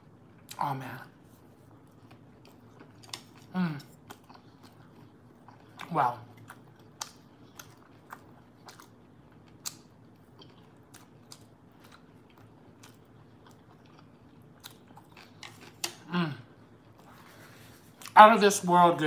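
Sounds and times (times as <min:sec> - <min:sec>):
person chewing food: 0:01.2 - 0:18.2.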